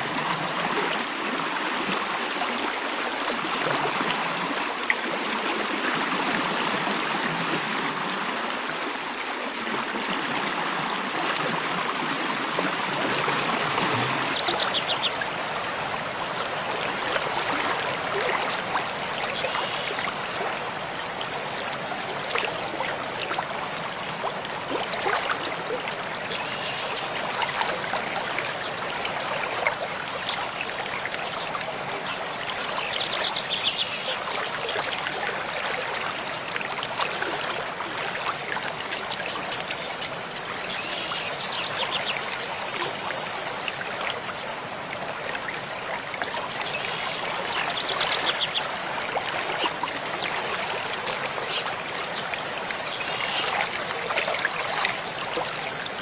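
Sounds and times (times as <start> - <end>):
mountain stream flowing: 0.0 - 56.0.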